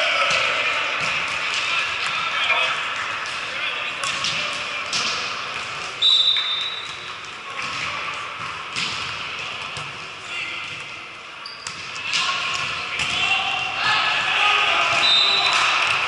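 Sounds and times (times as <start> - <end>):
players' voices: 0.0 - 16.0.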